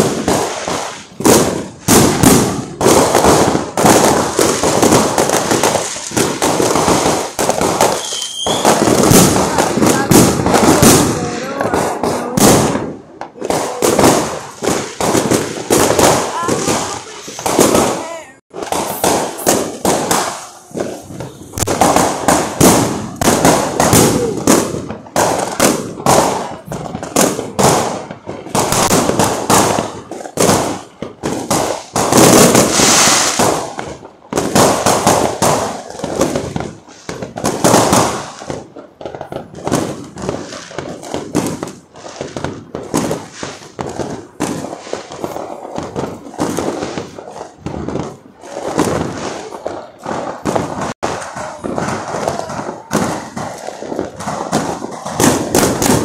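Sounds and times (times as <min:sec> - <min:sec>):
firecrackers and fireworks banging: 0:00.0 - 0:56.0.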